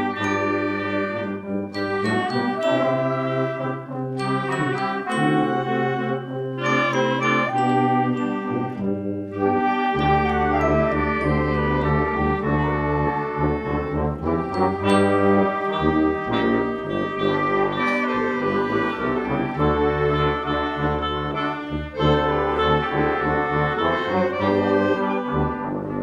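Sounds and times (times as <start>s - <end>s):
school band playing brass chords: 0.0s - 26.0s.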